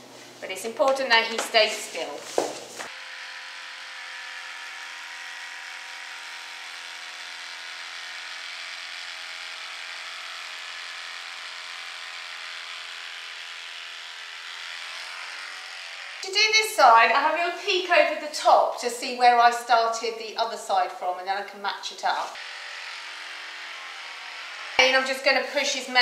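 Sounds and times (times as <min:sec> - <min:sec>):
electric clippers humming: 0:00.0 - 0:20.2, 0:20.8 - 0:26.0.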